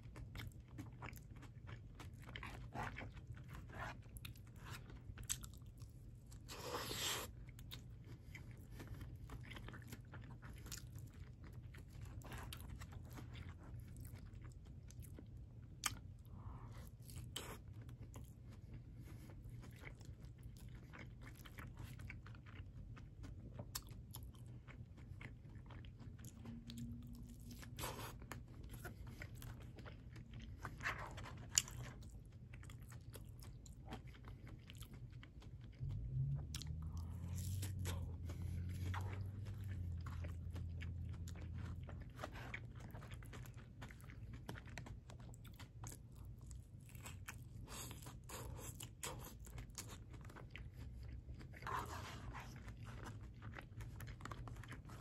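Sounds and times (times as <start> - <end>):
crunchy chewing: 0.0 - 55.0
steady low hum: 0.0 - 55.0.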